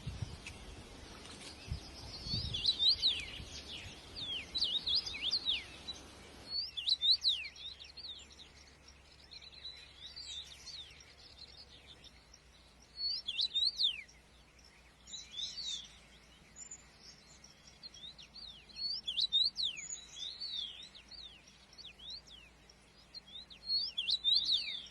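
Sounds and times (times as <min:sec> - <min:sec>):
faint background hiss: 0:00.0 - 0:24.9
small birds chirping: 0:00.0 - 0:24.9.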